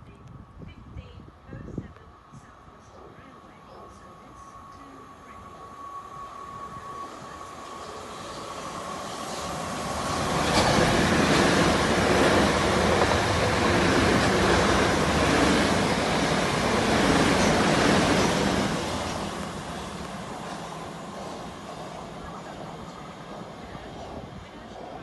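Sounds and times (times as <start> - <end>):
train passing on rails: 0.4 - 25.0.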